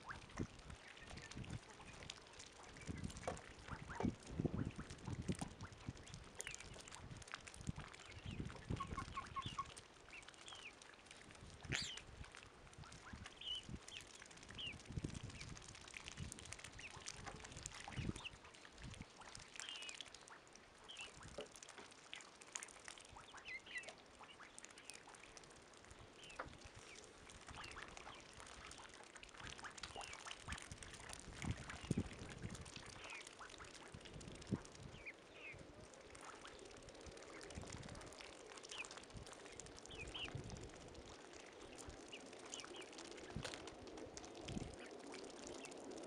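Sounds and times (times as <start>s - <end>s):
bills splashing and slurping water: 0.0s - 46.0s.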